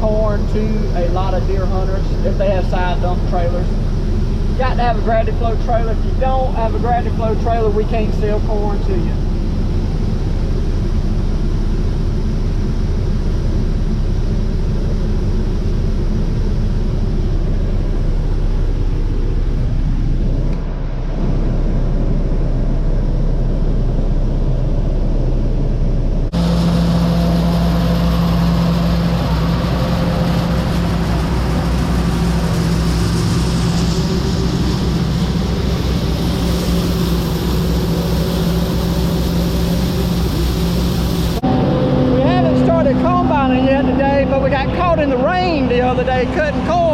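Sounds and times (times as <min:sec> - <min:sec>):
farm machinery engines running: 0:00.0 - 0:46.9
high-pitched machine hum: 0:00.0 - 0:46.9
rushing noise: 0:00.0 - 0:46.9.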